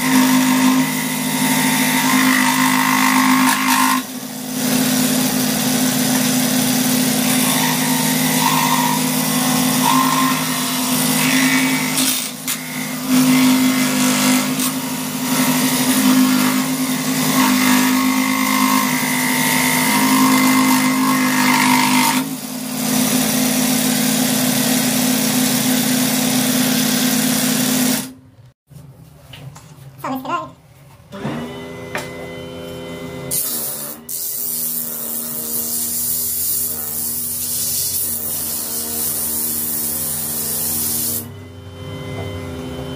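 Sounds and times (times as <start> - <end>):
scroll saw cutting wood: 0.0 - 28.2, 33.2 - 42.3.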